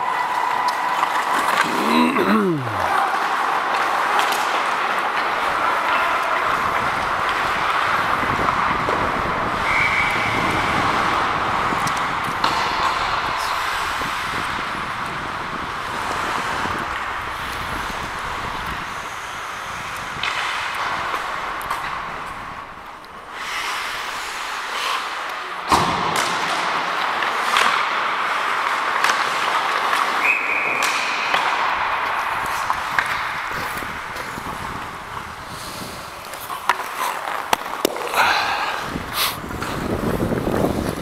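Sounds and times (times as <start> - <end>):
skates scraping on ice: 0.0 - 41.0
sticks and puck clacking: 0.0 - 41.0.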